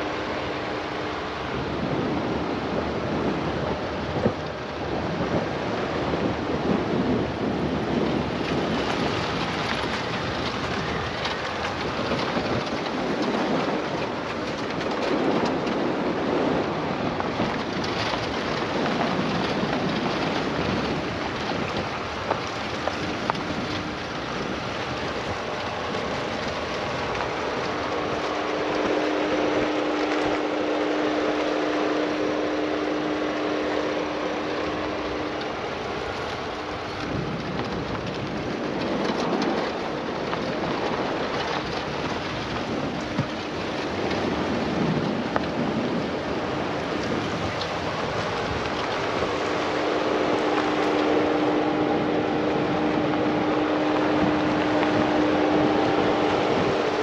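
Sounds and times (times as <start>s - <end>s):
car road noise: 0.0s - 57.0s
wind rushing over microphone: 0.0s - 57.0s.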